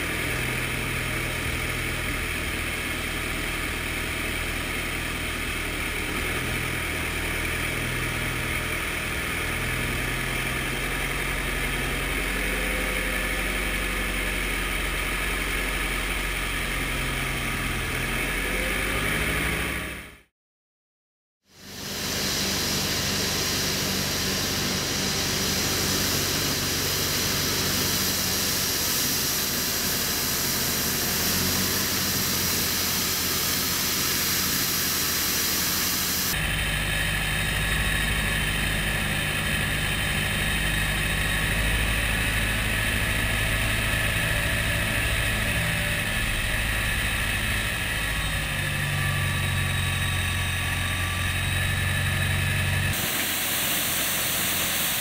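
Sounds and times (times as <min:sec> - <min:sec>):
tractor engine running: 0:00.0 - 0:20.2, 0:21.6 - 0:55.0.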